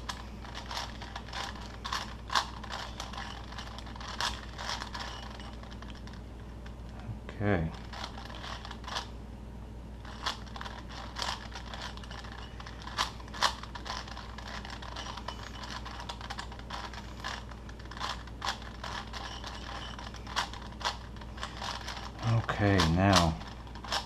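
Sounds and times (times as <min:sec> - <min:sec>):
puzzle cube clicking: 0:00.0 - 0:06.2, 0:10.1 - 0:24.0
steady low hum: 0:00.0 - 0:24.0.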